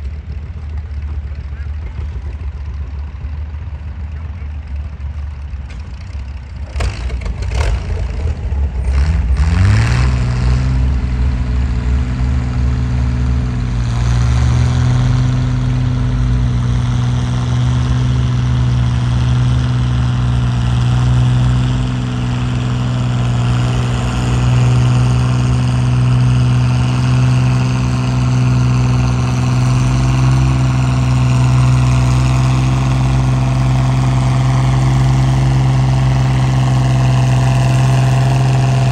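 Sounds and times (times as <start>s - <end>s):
tractor engine revving under load: 6.7s - 38.9s.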